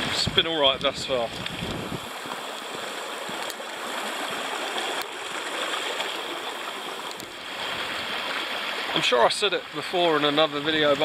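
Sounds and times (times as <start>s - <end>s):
stream babbling and rushing: 0.0s - 11.0s.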